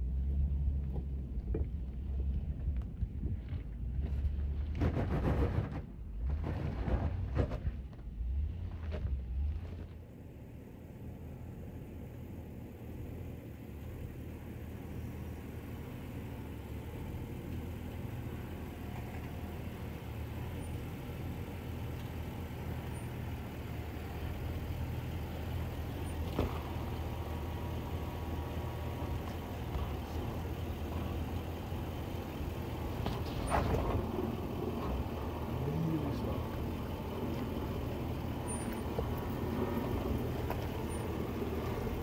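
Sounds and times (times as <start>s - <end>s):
truck engine running at low revs: 0.0s - 42.0s.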